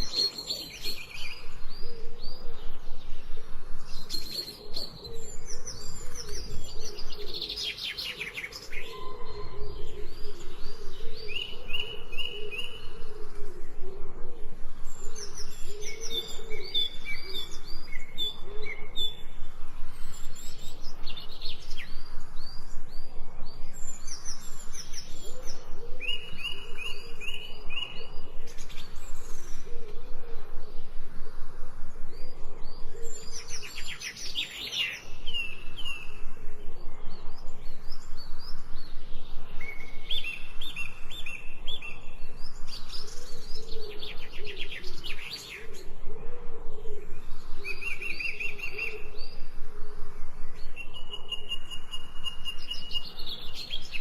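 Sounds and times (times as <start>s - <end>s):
birds chirping and whistling: 0.0s - 13.1s, 14.8s - 30.9s, 32.1s - 46.0s, 47.0s - 49.5s, 50.4s - 54.0s
soft low bird calls: 0.0s - 54.0s.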